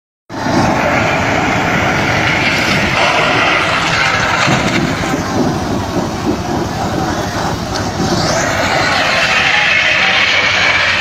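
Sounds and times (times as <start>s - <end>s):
broad rushing noise: 0.3s - 11.0s
engine and road rumble: 0.3s - 11.0s.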